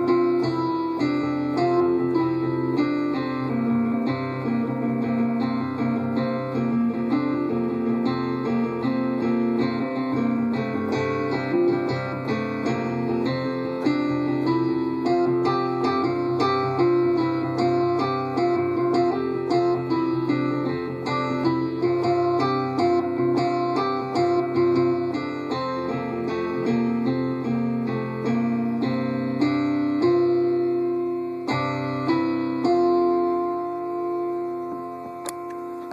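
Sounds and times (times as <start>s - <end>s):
guitar: 0.0s - 35.9s
keyboard improvisation: 0.0s - 35.9s.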